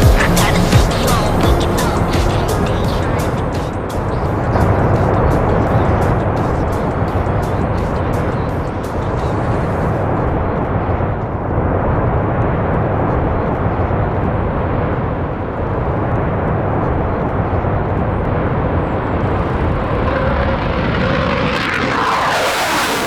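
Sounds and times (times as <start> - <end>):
aircraft engine roar: 0.0 - 23.0.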